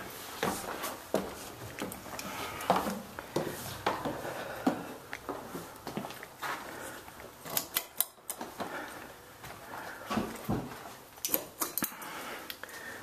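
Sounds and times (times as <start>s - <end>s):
footsteps: 0.0s - 7.6s, 8.4s - 11.6s.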